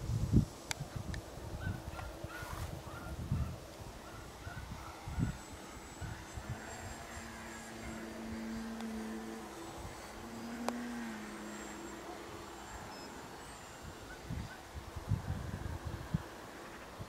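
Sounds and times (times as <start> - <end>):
model airplane engine humming: 0.0 - 17.0
wind rumble on microphone: 0.0 - 17.0.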